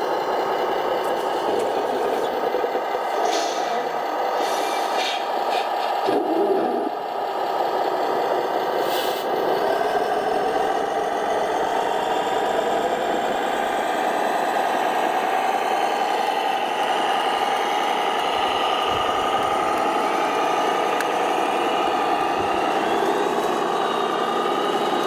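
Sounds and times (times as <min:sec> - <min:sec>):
model truck motor drone and whine: 0:00.0 - 0:25.0.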